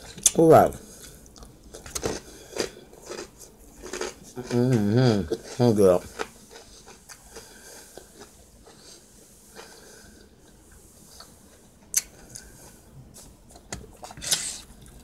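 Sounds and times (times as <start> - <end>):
chewing with mouth closed: 1.0 - 9.8, 11.2 - 15.0.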